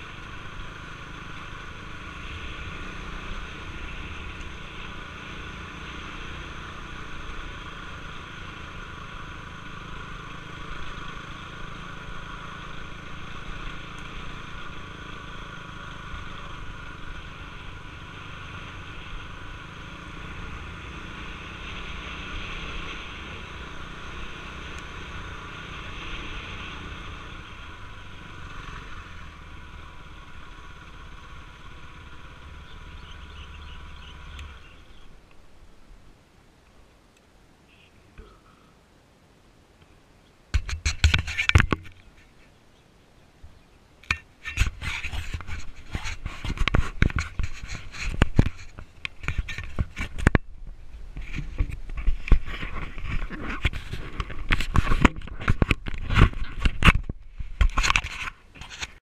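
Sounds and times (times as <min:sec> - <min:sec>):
motorcycle engine running: 0:00.0 - 0:35.7, 0:44.0 - 0:59.0.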